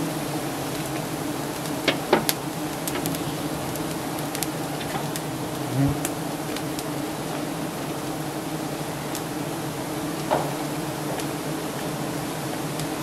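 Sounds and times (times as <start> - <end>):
bees buzzing: 0.1 - 12.6.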